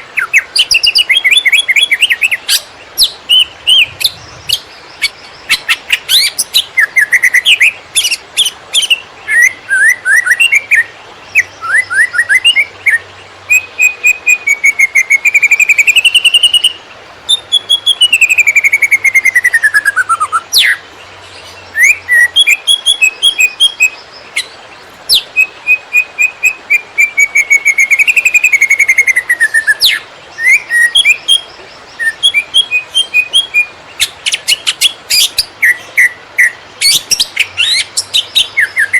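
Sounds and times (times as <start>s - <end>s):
bird singing chirps and whistles: 0.0s - 20.8s, 21.6s - 24.5s, 25.1s - 38.9s.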